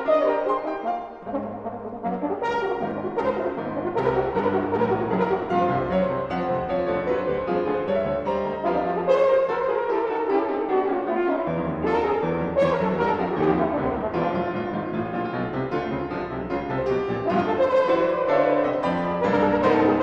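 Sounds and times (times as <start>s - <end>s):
french horn melody: 0.0s - 20.0s
piano accompaniment: 0.0s - 20.0s.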